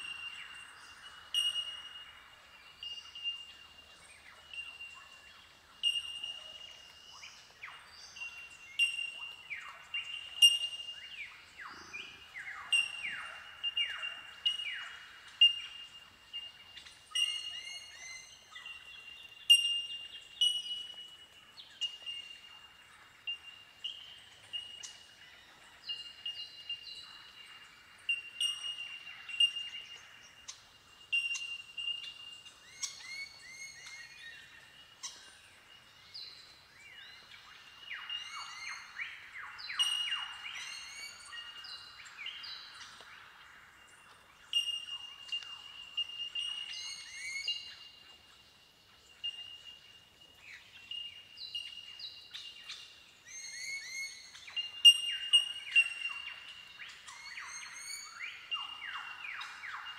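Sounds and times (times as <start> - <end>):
birds ringing tink calls: 0.0 - 59.9.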